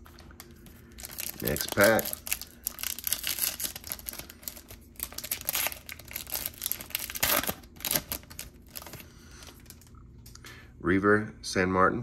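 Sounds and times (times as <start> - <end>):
foil wrapper crinkling: 0.0 - 9.9.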